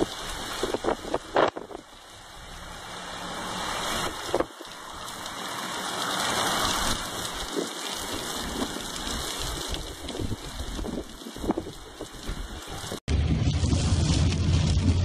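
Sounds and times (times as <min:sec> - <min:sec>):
heavy rain: 0:00.0 - 0:15.0
hurricane wind: 0:00.0 - 0:15.0.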